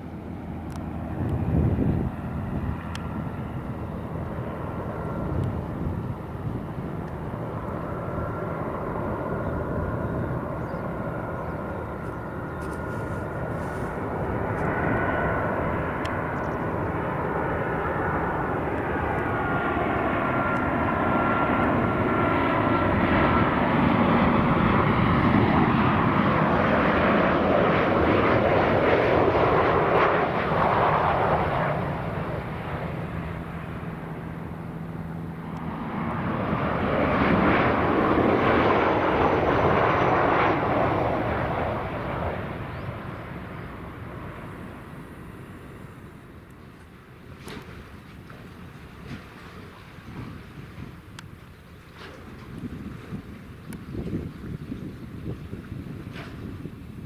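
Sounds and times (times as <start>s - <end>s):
jet plane engines roaring: 0.0s - 57.0s.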